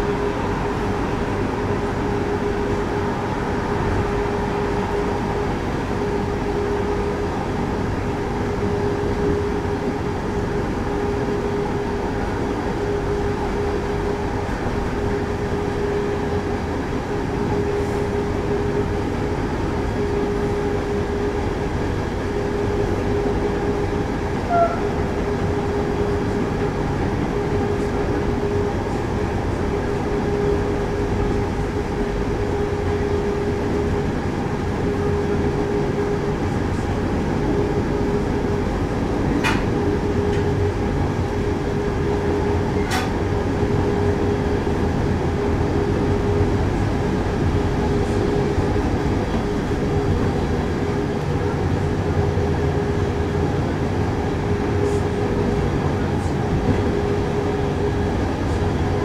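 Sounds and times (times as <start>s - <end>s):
steady hum: 0.0s - 59.0s
train wheels rumbling on rail: 0.0s - 59.0s.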